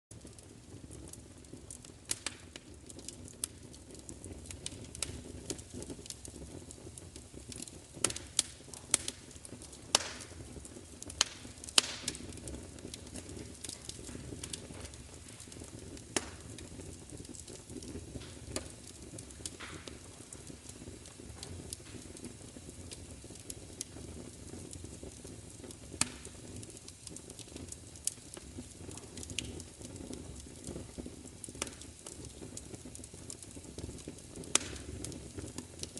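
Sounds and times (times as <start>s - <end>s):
fire crackling and popping: 0.1s - 35.9s.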